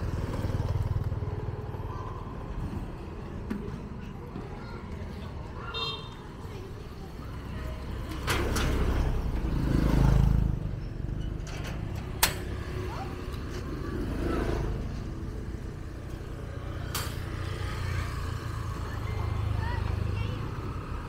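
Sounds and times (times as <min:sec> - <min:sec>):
motorbikes passing: 0:00.0 - 0:21.0
traffic rumble: 0:00.0 - 0:21.0.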